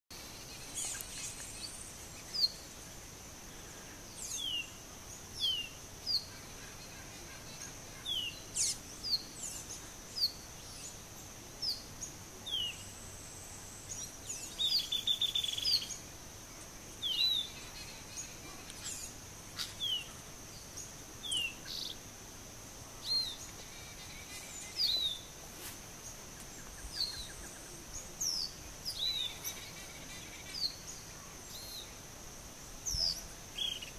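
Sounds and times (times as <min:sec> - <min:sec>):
small birds chirping: 0:00.1 - 0:22.2, 0:22.8 - 0:33.9
steady high-pitched hum: 0:00.1 - 0:33.9.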